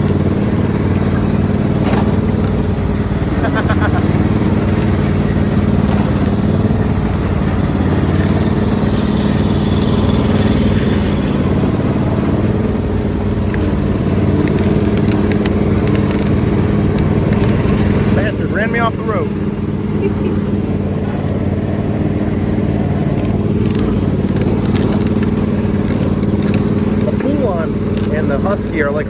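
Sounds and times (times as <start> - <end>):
riding lawn mower engine running: 0.0 - 29.0.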